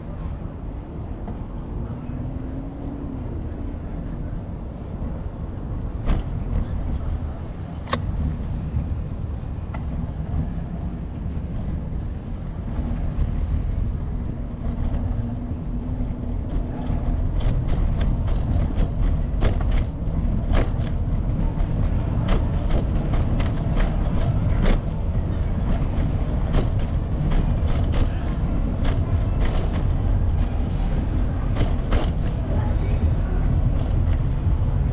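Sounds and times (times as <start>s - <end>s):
steady low rumble: 0.0s - 34.9s.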